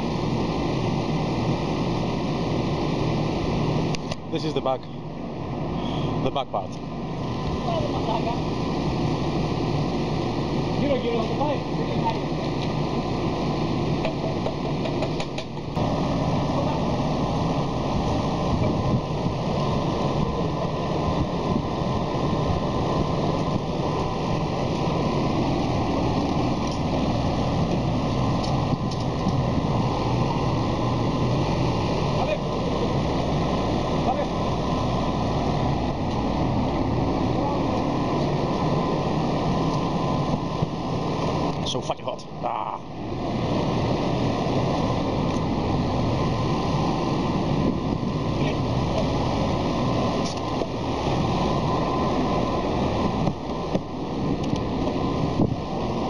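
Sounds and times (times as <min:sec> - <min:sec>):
crane engine running: 0:00.0 - 0:56.0
faint steady whine: 0:00.0 - 0:56.0.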